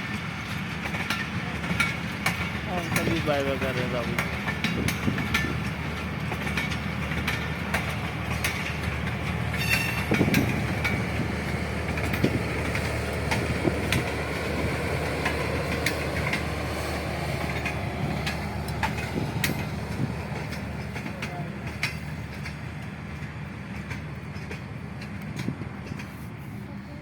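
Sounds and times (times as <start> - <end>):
train wheels rumbling on track: 0.0 - 27.0
wheels clicking over rail joints: 0.0 - 27.0.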